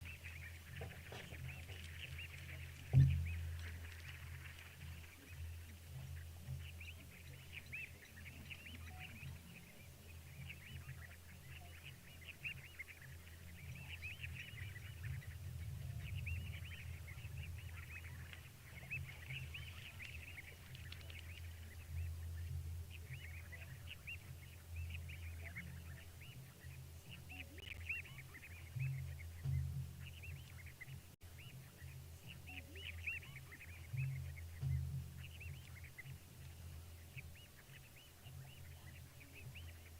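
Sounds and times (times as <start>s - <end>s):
chorus of chirping animal calls: 0.0s - 39.9s
steady low hum: 0.0s - 39.9s.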